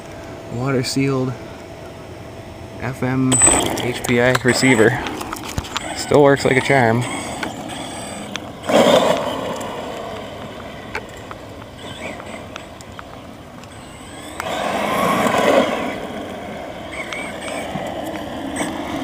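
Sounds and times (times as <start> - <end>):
electric rc truck accelerating: 3.3 - 19.0.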